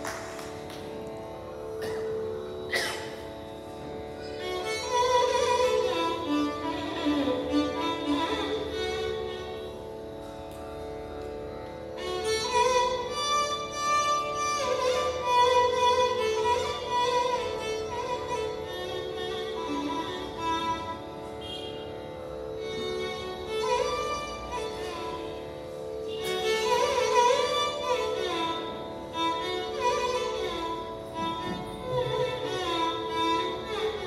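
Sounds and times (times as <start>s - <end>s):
electronic tanpura drone: 0.0s - 34.0s
violin playing gliding phrases: 3.5s - 34.0s.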